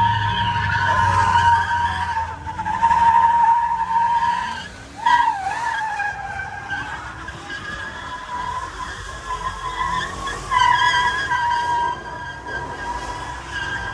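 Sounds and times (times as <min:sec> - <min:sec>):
car tyres squealing: 0:00.0 - 0:13.9.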